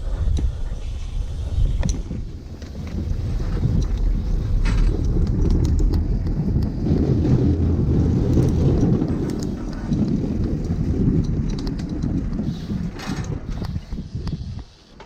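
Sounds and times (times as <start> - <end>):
wind buffeting microphone: 0.0 - 15.0
bicycle clicks: 1.6 - 15.0.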